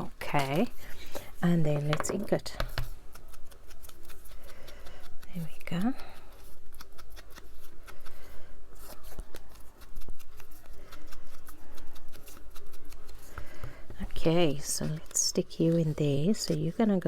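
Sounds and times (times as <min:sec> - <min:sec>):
scratchy strokes on paper: 0:02.6 - 0:17.0.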